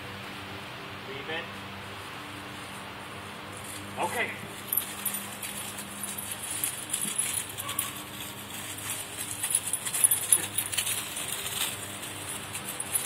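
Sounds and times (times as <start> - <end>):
dry leaves crunching and rustling: 1.6 - 13.0.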